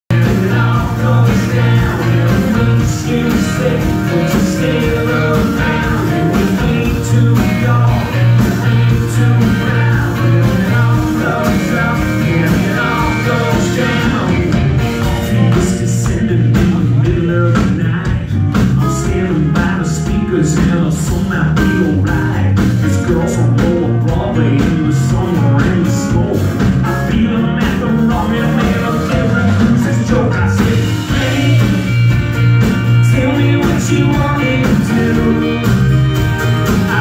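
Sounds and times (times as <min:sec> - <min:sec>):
man singing lead vocal: 0:00.0 - 0:37.0
live rock band playing: 0:00.1 - 0:37.0.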